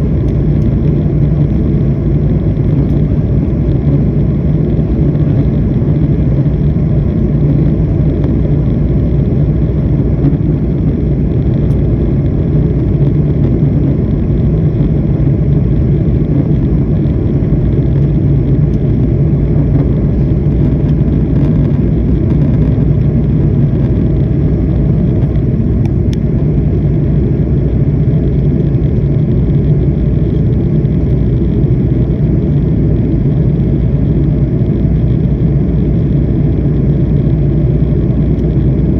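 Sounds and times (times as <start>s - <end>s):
jet engines rumbling on takeoff: 0.0s - 38.9s.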